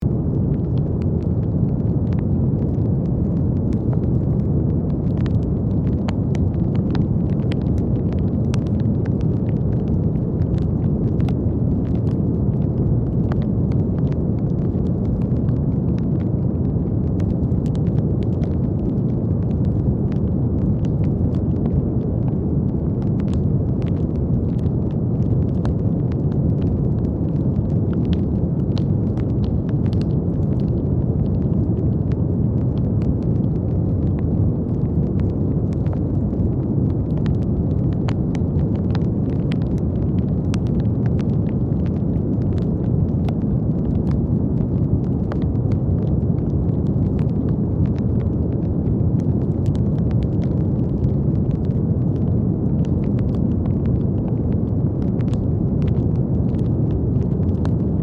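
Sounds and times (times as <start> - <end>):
brown noise hiss: 0.0 - 58.0
faint crackles: 0.0 - 58.0.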